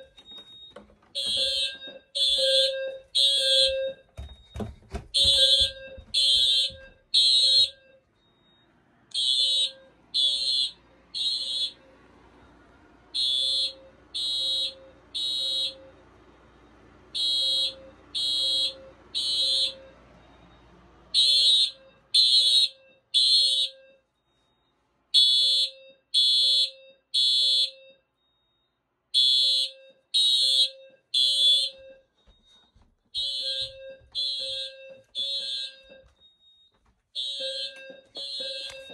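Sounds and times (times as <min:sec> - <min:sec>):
fire alarm high-pitched tones: 0:00.0 - 0:38.9.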